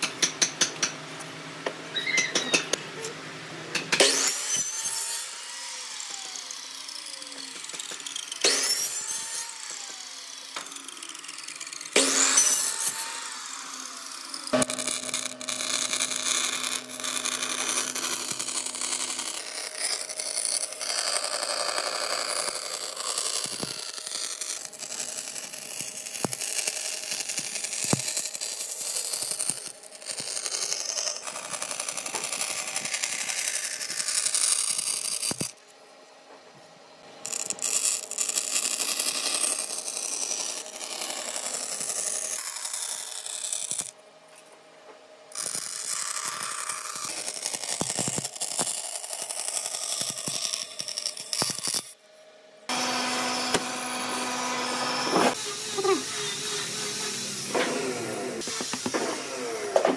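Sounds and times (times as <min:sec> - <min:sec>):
bandsaw motor humming: 0:00.0 - 0:35.7, 0:37.0 - 0:44.4, 0:45.3 - 0:52.0, 0:52.7 - 0:59.9
bandsaw blade cutting wood: 0:03.8 - 0:35.6, 0:37.2 - 0:44.0, 0:45.3 - 0:52.0, 0:52.7 - 0:59.9.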